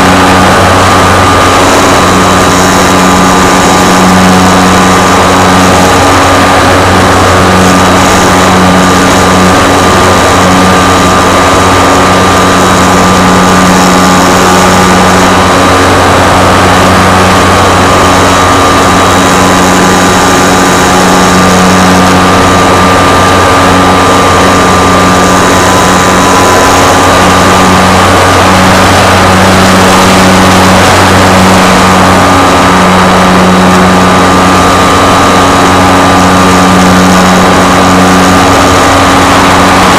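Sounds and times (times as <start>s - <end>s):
model aircraft motor and propeller: 0.0s - 39.9s.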